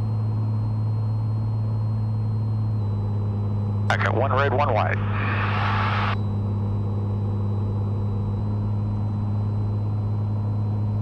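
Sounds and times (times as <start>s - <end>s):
aircraft engine and propeller drone: 0.0s - 11.0s.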